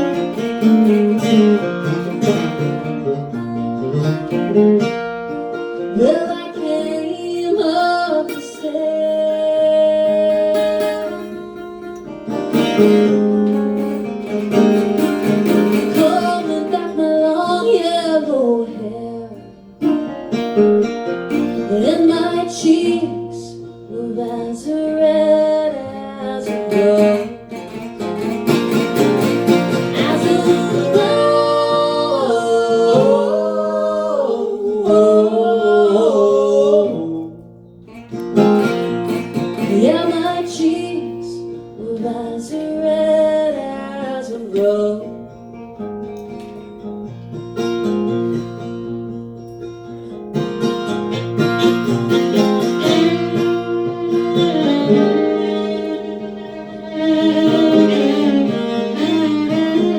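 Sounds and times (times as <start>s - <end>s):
acoustic guitar picking: 0.0s - 59.9s.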